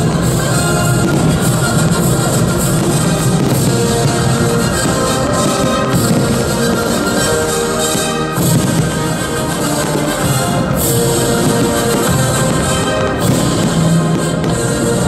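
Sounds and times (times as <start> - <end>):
orchestral music with brass: 0.0 - 15.0.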